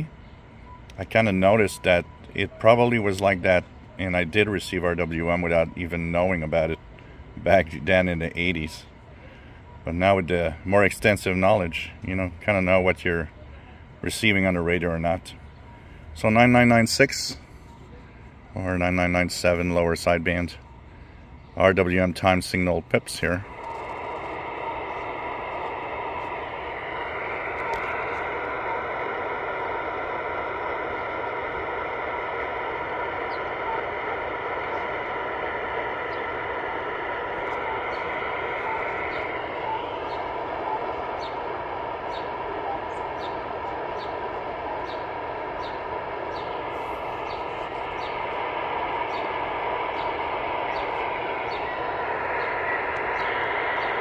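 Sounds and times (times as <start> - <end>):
radio static hiss: 0.9 - 21.0, 21.6 - 54.0.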